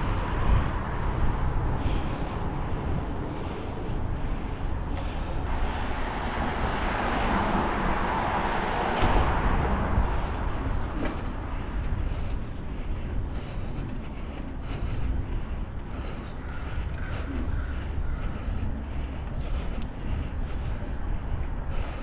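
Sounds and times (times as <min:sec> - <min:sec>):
low vehicle rumble: 0:00.0 - 0:22.0.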